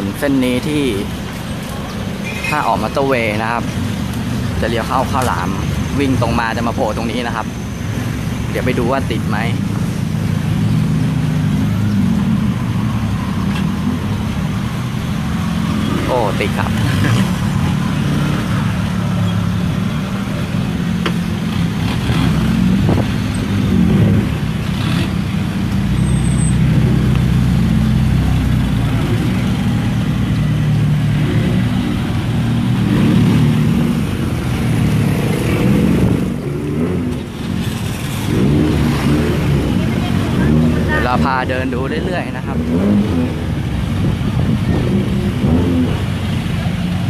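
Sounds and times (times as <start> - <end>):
traffic engines droning: 0.0 - 47.0.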